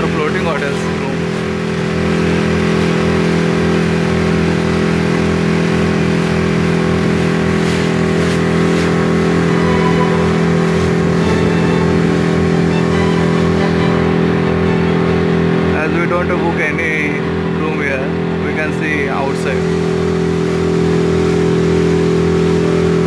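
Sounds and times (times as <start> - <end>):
motorboat engine running: 0.0 - 23.0.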